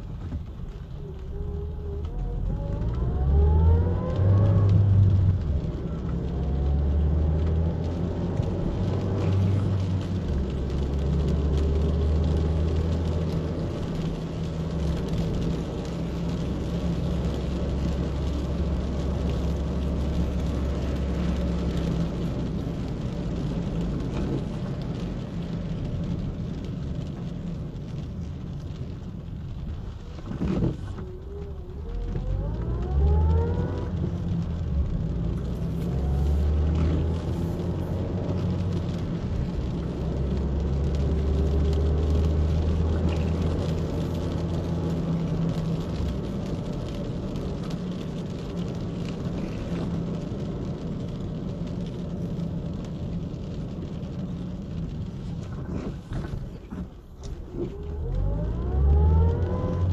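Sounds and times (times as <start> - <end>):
car engine rumble: 0.0 - 59.9
tyres hissing on wet asphalt: 0.0 - 59.9.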